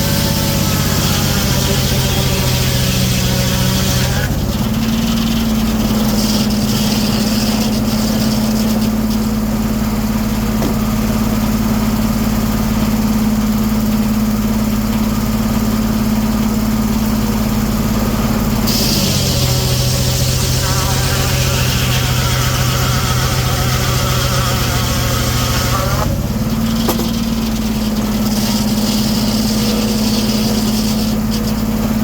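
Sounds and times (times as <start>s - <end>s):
sawmill engine running: 0.0s - 32.0s.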